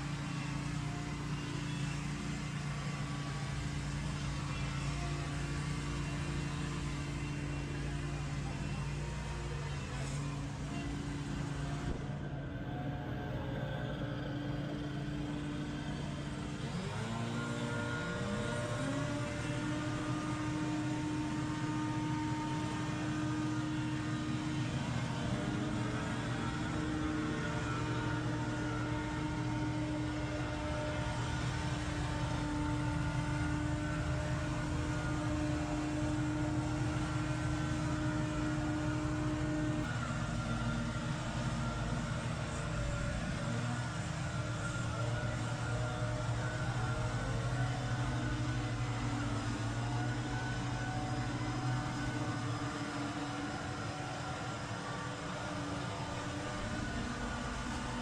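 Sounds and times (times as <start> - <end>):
small engine revving: 0.0 - 58.0.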